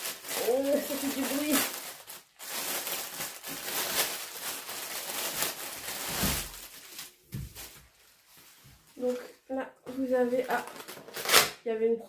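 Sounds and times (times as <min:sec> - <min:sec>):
plastic bag crinkling: 0:00.0 - 0:09.4, 0:10.0 - 0:11.4.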